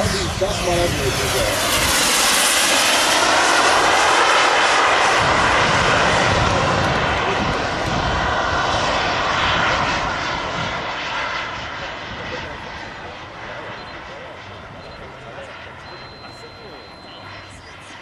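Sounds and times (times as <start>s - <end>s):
model jet turbines flying past: 0.0s - 18.0s.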